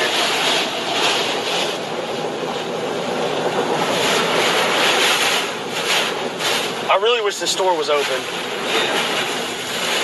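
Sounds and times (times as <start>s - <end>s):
wind rushing around truck: 0.0s - 10.0s.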